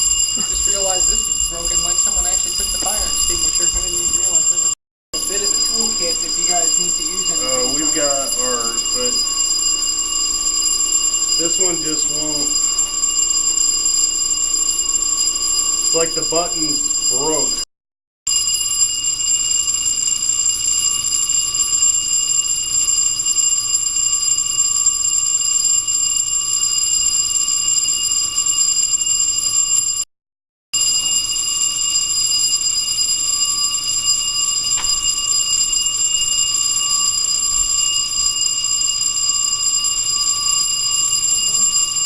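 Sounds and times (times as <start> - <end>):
fire alarm bell ringing: 0.0 - 17.7, 18.3 - 30.1, 30.8 - 42.0.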